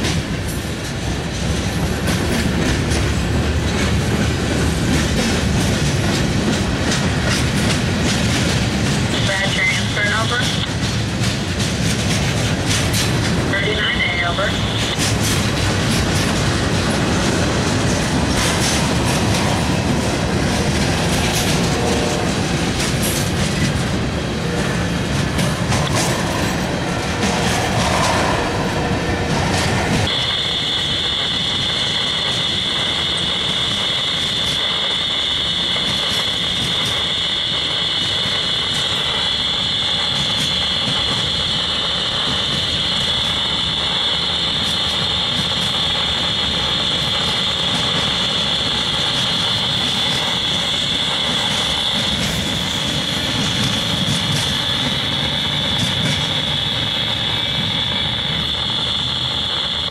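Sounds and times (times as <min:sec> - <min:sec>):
wheel-on-rail rumble: 0:00.0 - 0:59.9.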